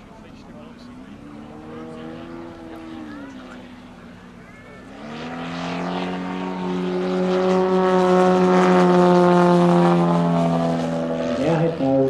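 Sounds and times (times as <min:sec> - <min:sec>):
model airplane engine: 0:00.0 - 0:12.0.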